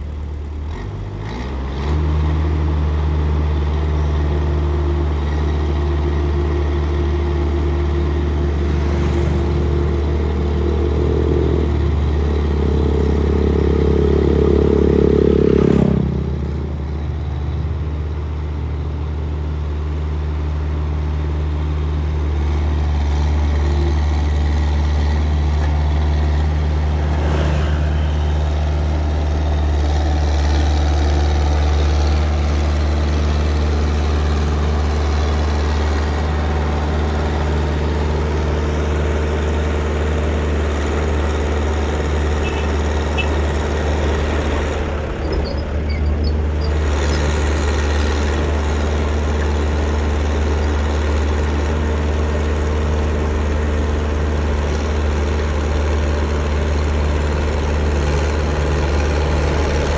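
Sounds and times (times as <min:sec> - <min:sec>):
vehicle engine under load: 0:00.0 - 0:59.9.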